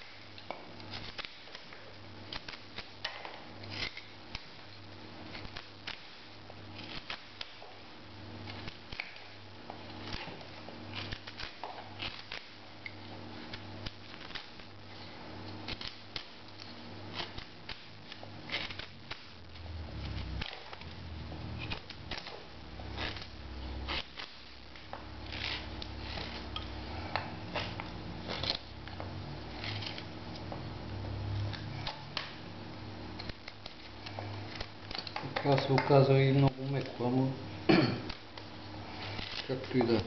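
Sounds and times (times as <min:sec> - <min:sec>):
knife carving wood: 0:00.0 - 0:04.6, 0:05.2 - 0:07.8, 0:08.4 - 0:20.9, 0:21.5 - 0:30.5, 0:33.2 - 0:35.8, 0:38.1 - 0:39.9
steady low hum: 0:00.0 - 0:40.0.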